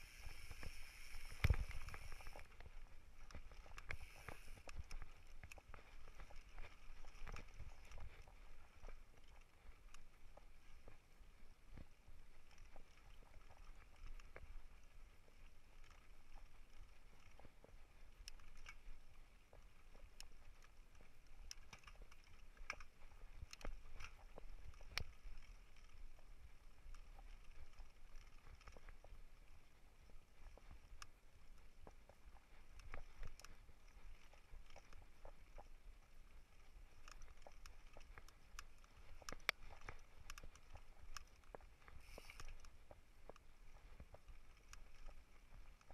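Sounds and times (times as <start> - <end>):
bike rumble on dirt trail: 0.0 - 36.0, 36.6 - 45.9.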